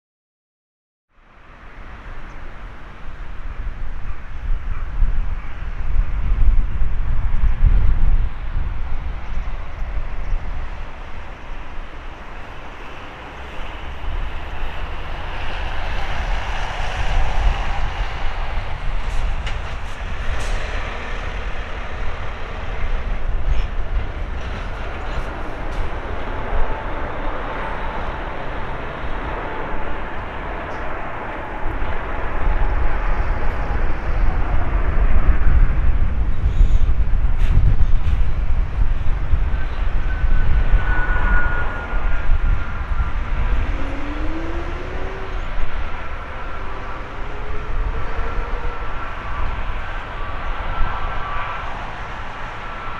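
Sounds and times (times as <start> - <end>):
jet engine rumble: 1.9 - 52.9.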